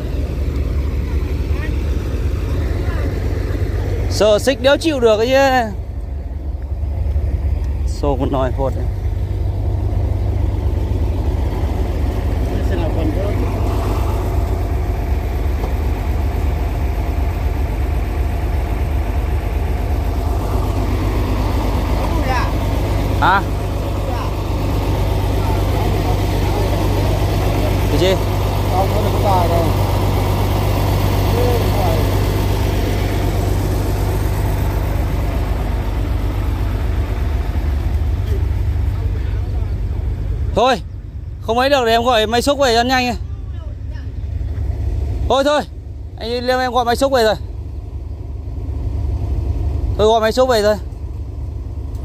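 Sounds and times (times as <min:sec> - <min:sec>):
heavy diesel engine idling: 0:00.0 - 0:52.0.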